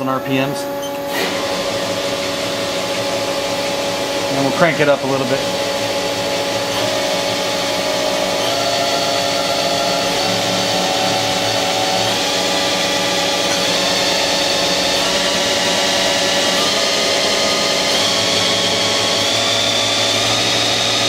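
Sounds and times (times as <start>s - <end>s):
lathe spindle whine: 0.0s - 21.0s.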